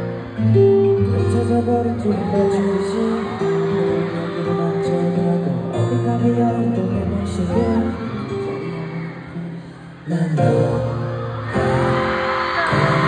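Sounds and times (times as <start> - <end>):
man singing pop song live: 0.0 - 13.0.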